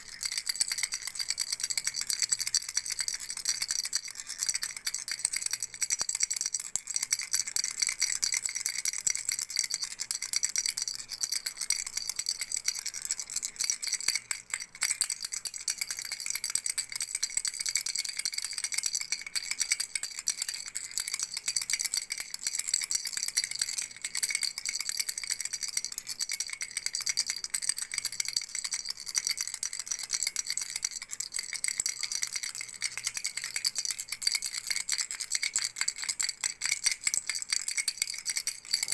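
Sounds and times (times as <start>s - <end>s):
baby rattle shaking: 0.0s - 18.6s, 23.8s - 38.9s.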